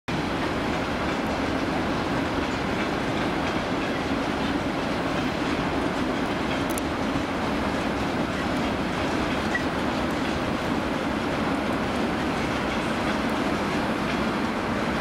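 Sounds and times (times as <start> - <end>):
electric locomotive hum and rush: 0.1 - 15.0.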